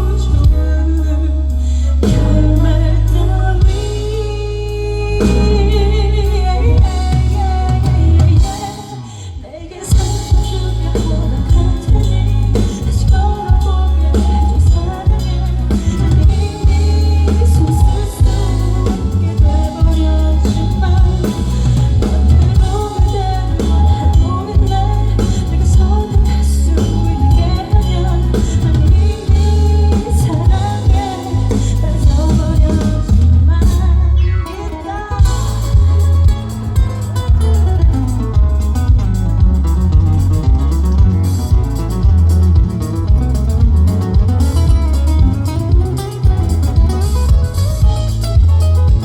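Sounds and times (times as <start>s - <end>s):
heavy bass line: 0.0s - 9.2s, 9.9s - 49.0s
drums: 0.0s - 49.0s
woman singing: 0.0s - 49.0s
plucked and strummed guitar: 2.0s - 49.0s.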